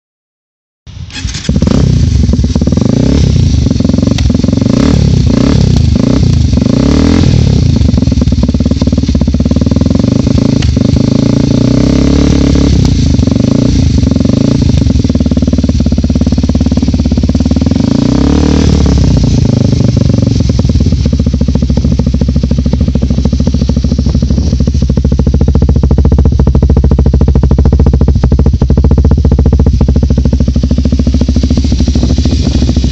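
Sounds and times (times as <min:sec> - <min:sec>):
motorcycle engine idling: 0:00.9 - 0:32.9.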